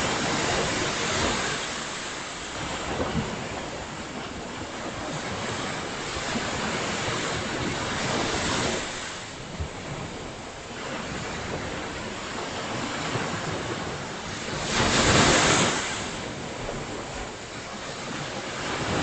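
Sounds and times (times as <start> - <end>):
waves washing ashore: 0.0 - 19.0.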